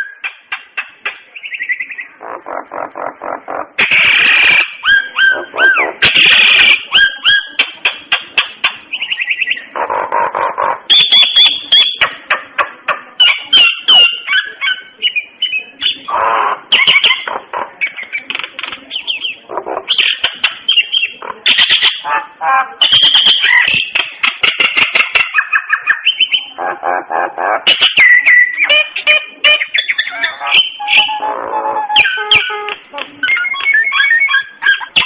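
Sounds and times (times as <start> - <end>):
myna singing whistles and chatter: 0.0 - 9.9, 10.8 - 35.0.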